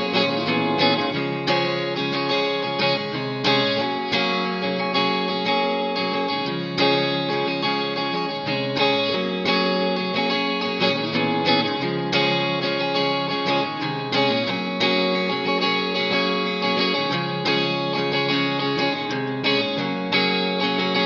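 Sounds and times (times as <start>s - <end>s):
guitar music: 0.0s - 21.0s.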